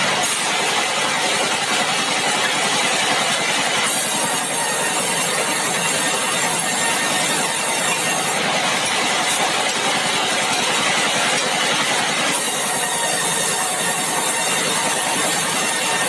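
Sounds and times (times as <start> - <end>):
sawmill machinery running: 0.0 - 16.0.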